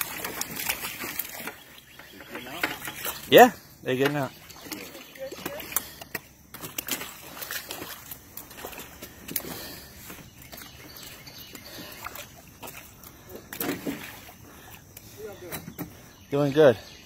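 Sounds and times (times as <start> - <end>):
fish flopping and splashing: 0.0 - 3.3, 4.1 - 16.1.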